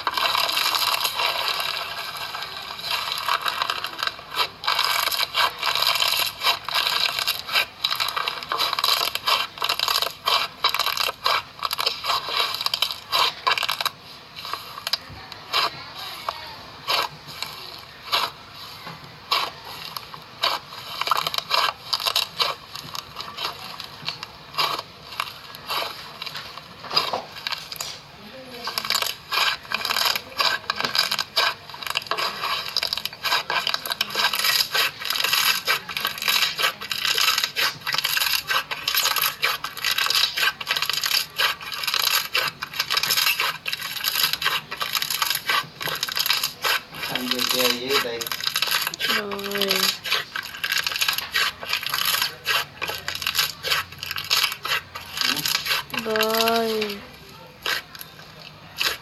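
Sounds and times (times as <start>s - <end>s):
slime crackling and popping: 0.0s - 59.0s.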